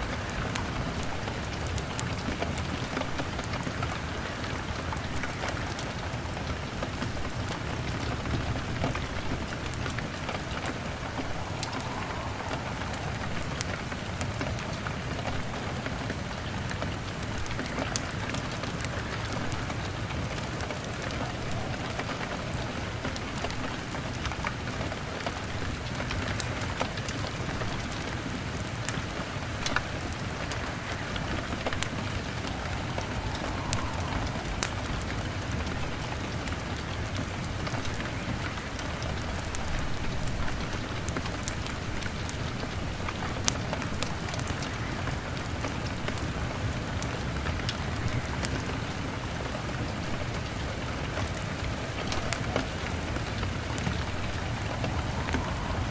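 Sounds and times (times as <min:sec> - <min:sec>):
fire crackling: 0:00.0 - 0:55.9
rain on a window: 0:00.0 - 0:55.9.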